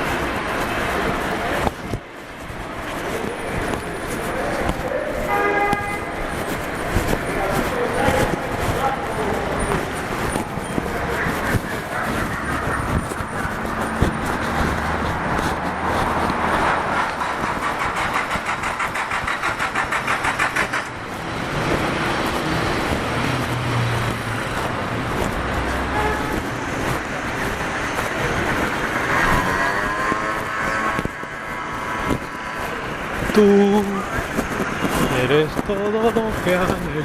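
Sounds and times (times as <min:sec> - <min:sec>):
motor vehicles passing: 0:00.0 - 0:37.0.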